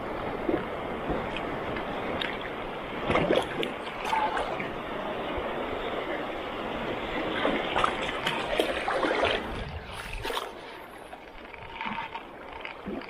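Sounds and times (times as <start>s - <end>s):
wind buffeting microphone: 0.0s - 11.9s
sea waves washing against rocks: 0.0s - 13.0s.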